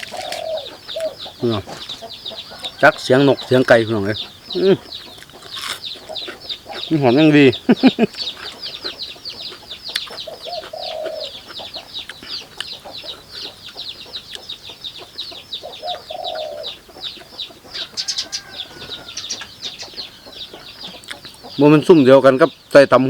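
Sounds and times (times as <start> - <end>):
short lower bird calls: 0.0 - 22.9
birds chirping: 0.0 - 23.0.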